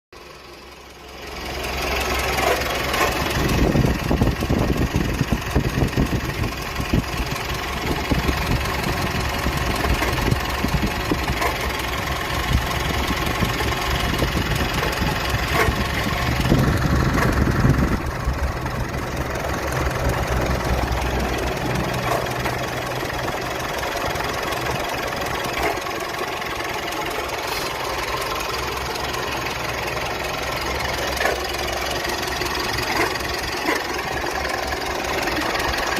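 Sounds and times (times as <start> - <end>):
car engine idling abnormally: 0.2 - 35.9.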